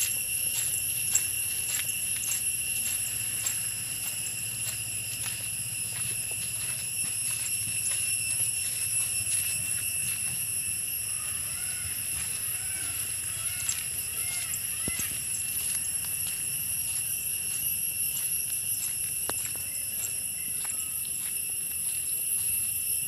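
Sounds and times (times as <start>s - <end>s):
footsteps on dirt path: 0.0s - 23.0s
shrill insect chorus: 0.0s - 23.0s.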